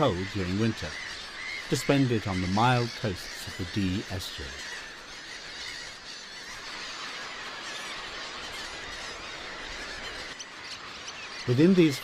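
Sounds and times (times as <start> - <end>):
flock of wading birds calling: 0.0 - 12.0.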